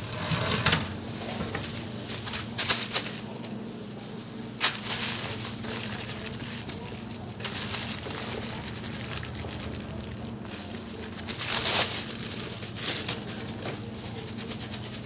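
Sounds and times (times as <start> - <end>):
low steady hum: 0.0 - 15.0
plastic film crinkling: 1.1 - 15.0.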